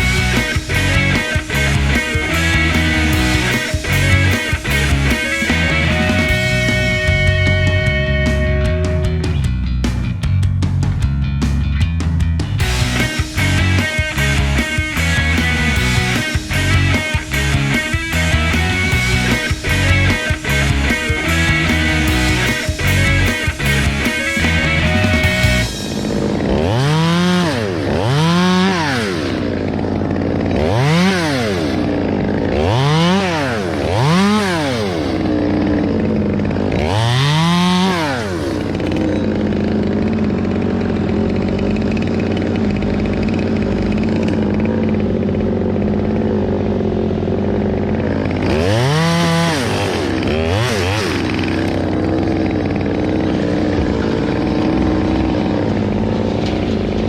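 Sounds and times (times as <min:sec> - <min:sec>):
chainsaw revving: 0:00.0 - 0:11.5, 0:12.4 - 0:57.0
low engine drone: 0:00.0 - 0:36.9, 0:37.5 - 0:57.0.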